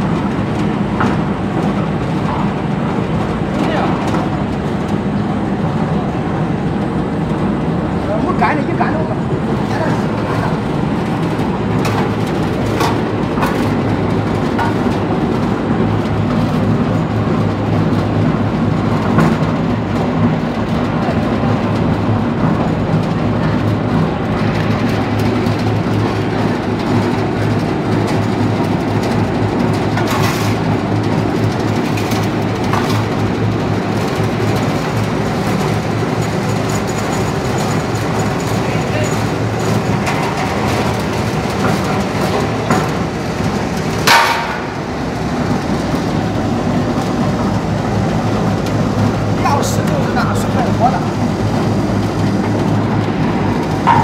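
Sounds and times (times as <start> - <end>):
machine knocks and clanks: 0.0 - 7.6, 8.2 - 54.0
briquette machine droning: 0.0 - 54.0.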